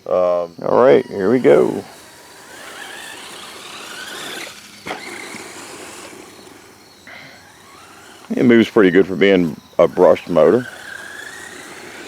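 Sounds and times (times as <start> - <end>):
electric motor whine: 0.0 - 12.0
tyre noise: 0.1 - 12.0.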